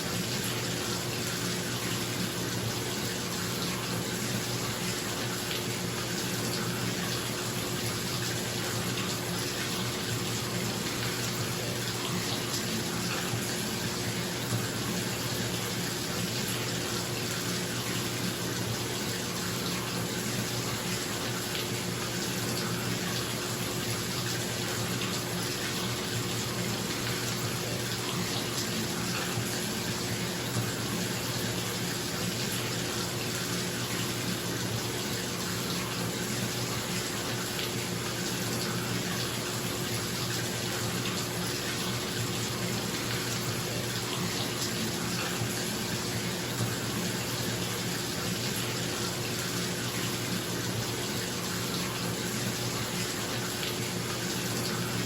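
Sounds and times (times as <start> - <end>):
faucet running into bathtub: 0.0 - 55.0.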